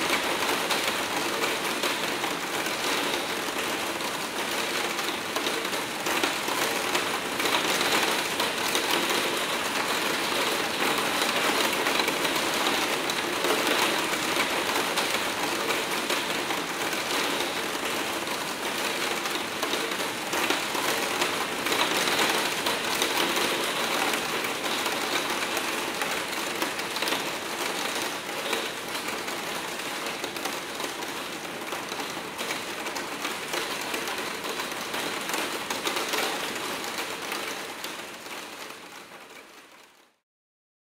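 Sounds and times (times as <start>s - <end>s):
hard rain on a skylight: 0.0s - 40.2s.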